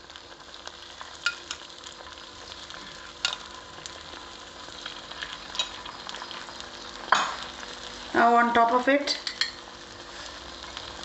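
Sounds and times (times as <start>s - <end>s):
egg and oil sizzling in a pan: 0.0s - 11.0s.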